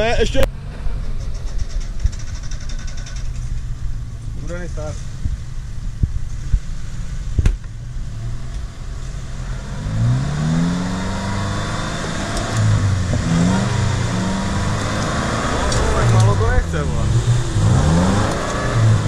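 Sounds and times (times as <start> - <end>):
off-road engine revving: 0.0 - 19.0.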